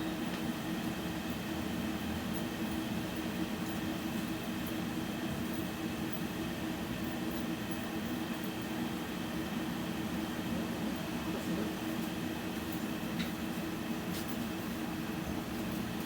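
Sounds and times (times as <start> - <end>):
electrical equipment droning: 0.0 - 16.0.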